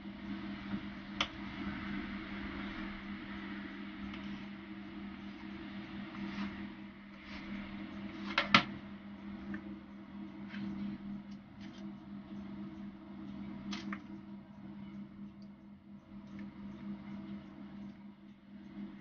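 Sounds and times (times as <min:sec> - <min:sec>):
low appliance hum: 0:00.0 - 0:19.0.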